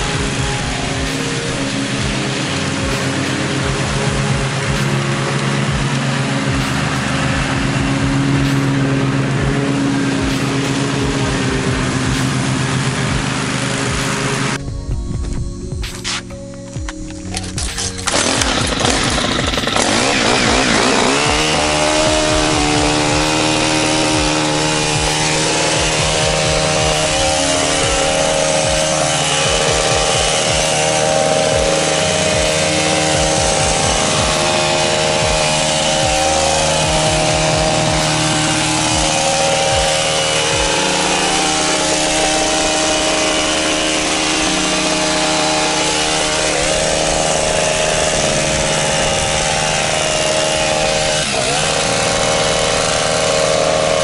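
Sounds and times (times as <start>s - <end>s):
hedge trimmer engine revving: 0.0s - 14.6s, 16.9s - 54.0s.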